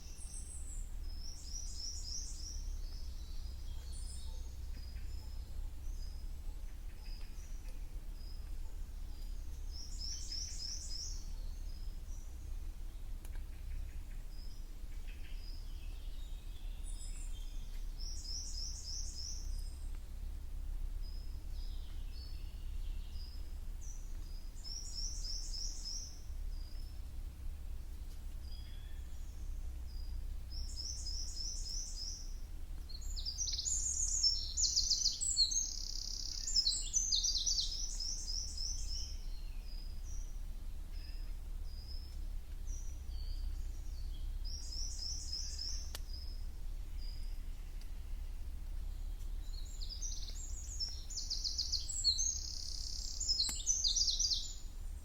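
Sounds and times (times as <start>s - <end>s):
steady low rumble: 0.0s - 34.6s, 35.2s - 53.8s
songbirds singing: 0.0s - 55.0s.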